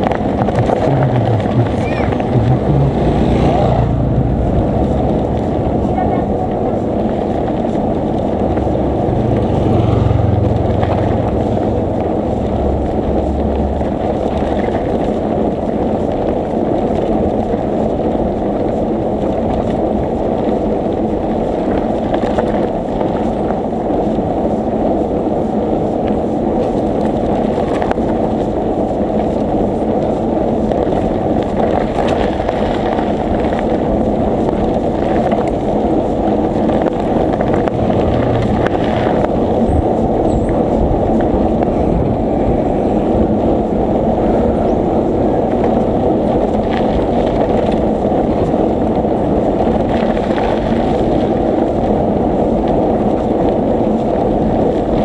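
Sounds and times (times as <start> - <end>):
low hum: 0.0 - 53.1
wind buffeting microphone: 0.0 - 55.0.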